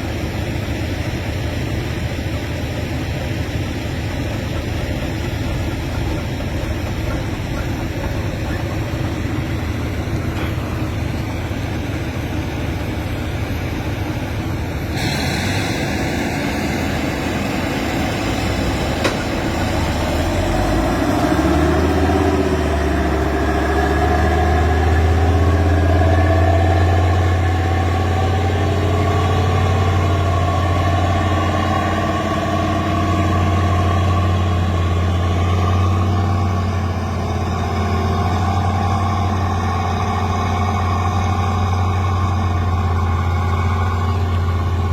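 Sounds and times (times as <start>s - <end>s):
heavy diesel engine under load: 0.0s - 44.9s.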